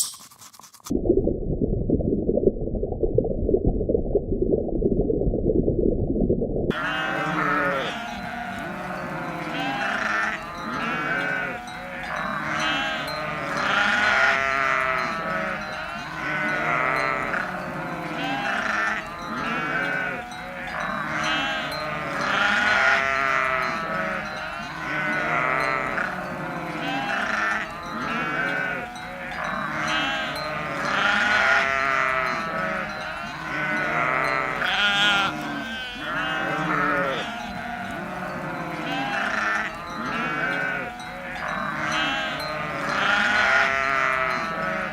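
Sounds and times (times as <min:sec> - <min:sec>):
sheep bleating: 0:06.7 - 0:44.9.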